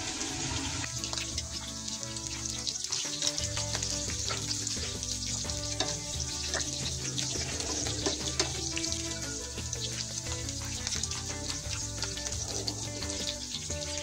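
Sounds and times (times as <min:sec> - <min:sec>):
background music: 0:00.0 - 0:14.0
pork sizzling in a pan: 0:00.0 - 0:14.0.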